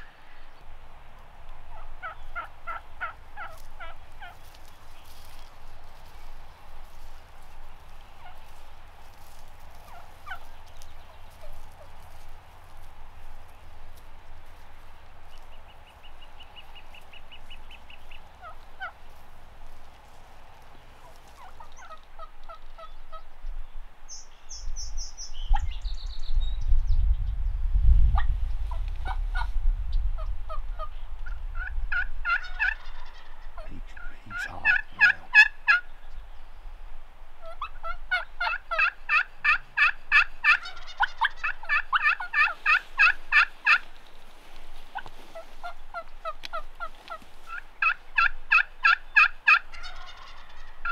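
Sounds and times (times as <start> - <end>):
wild turkeys gobbling: 1.7 - 23.3, 28.2 - 29.5, 30.2 - 36.2, 37.4 - 50.9.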